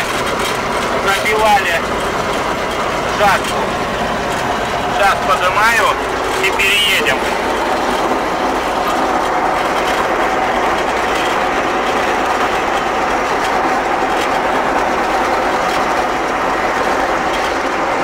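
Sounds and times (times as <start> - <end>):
machinery rattling clatter: 0.0 - 18.0
mower engine running: 0.0 - 18.0.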